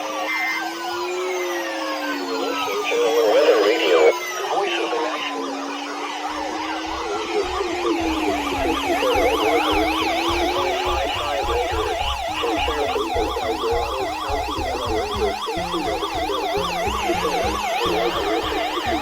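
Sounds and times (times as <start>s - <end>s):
siren wailing tone: 0.0s - 19.0s
siren fast yelp: 0.2s - 19.0s.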